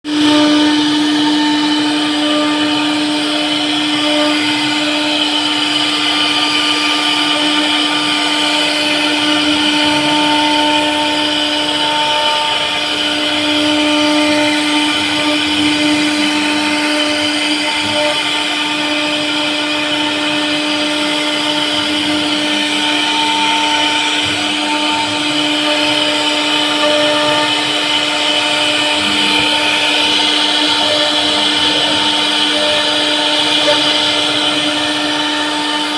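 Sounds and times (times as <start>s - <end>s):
router spindle whine carving wood: 0.0s - 35.9s.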